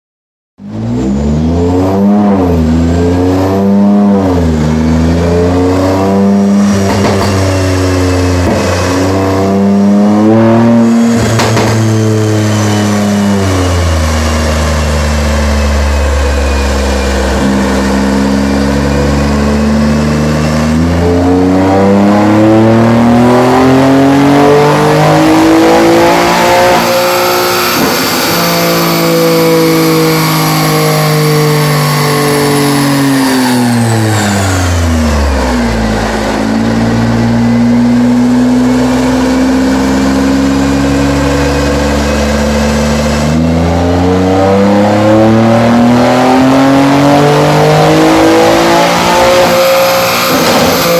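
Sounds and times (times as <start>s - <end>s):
engine revving: 0.6s - 50.9s.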